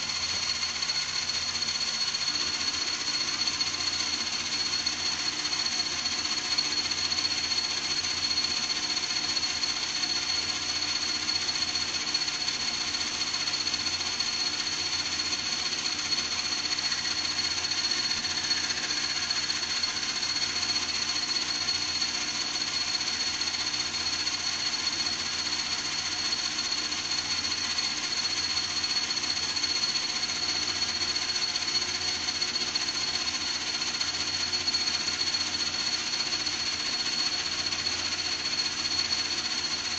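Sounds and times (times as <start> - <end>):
metal lathe running: 0.0 - 39.9.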